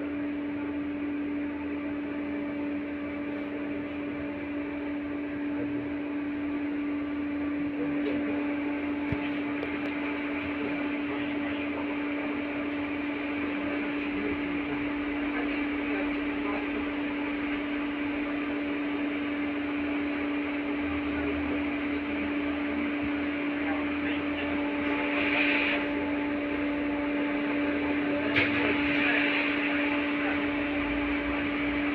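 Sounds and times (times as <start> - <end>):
constant low hum: 0.0 - 31.9
tram running rumble: 0.0 - 31.9.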